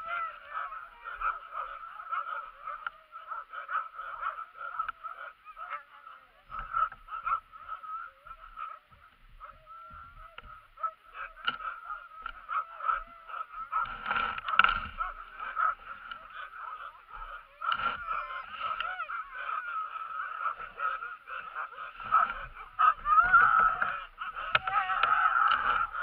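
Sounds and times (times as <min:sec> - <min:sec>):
sled dogs whining and yipping: 0:00.0 - 0:26.0.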